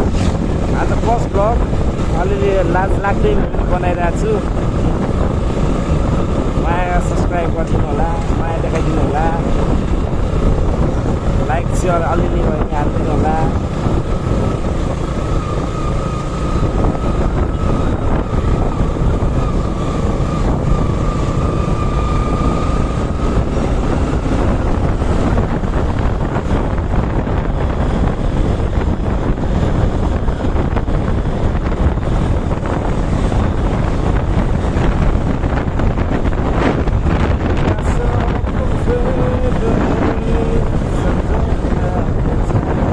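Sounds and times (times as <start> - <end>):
motorcycle engine and road noise: 0.0 - 42.9
wind buffeting microphone: 0.0 - 42.9.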